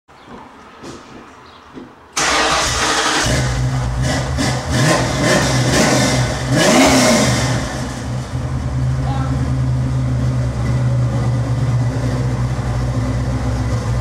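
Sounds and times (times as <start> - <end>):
car engine starting and idling: 2.2 - 14.0.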